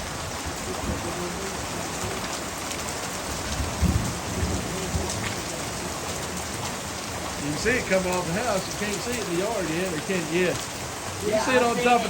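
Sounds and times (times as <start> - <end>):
hail pattering on roof: 0.0 - 12.0
heavy rain: 0.0 - 12.0.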